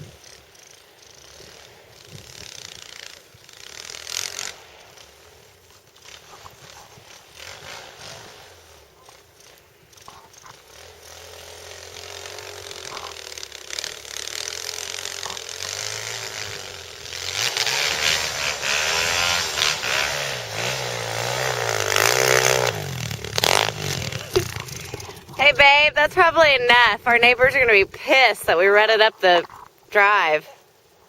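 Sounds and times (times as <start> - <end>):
pit bike engine revving: 0.0 - 29.0.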